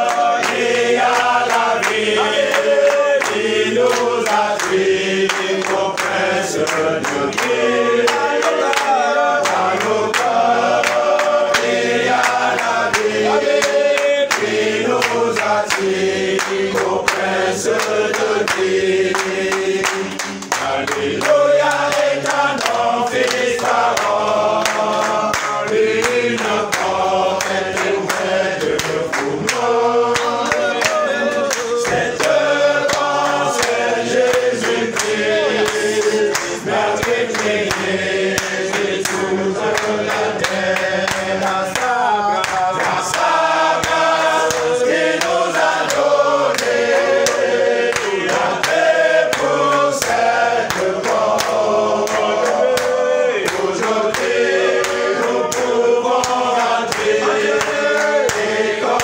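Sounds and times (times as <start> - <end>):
congregation singing a hymn: 0.0 - 59.0
hand claps: 0.0 - 59.0.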